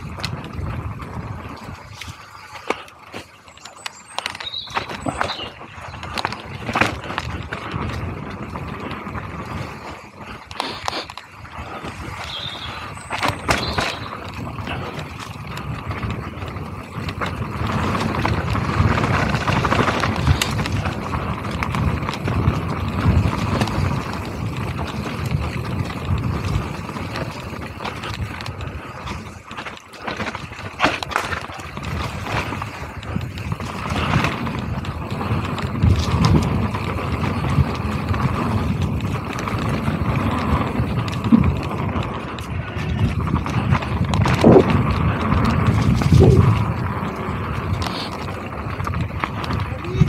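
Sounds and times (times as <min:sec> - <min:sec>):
bike knocking and rattling: 0:00.0 - 0:50.0
bike tyres rolling on dirt: 0:00.0 - 0:50.0
wind noise on microphone: 0:00.0 - 0:50.0.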